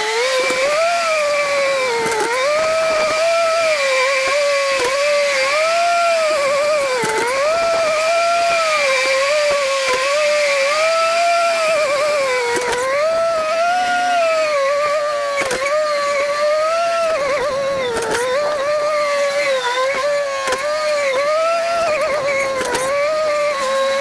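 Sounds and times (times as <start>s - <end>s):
farm machine whining: 0.0s - 24.0s.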